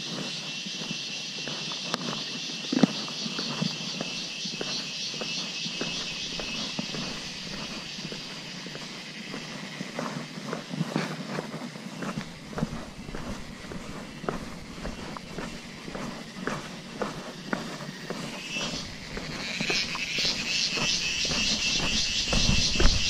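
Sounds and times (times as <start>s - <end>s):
footsteps on concrete steps: 0.0s - 23.0s.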